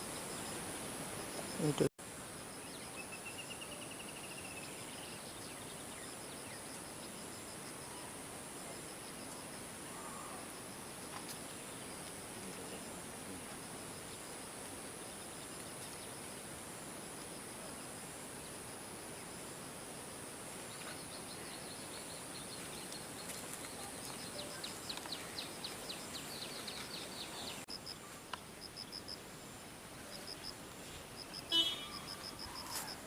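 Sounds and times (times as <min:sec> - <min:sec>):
background hiss: 0:00.0 - 0:33.0
high insect drone: 0:00.0 - 0:33.0.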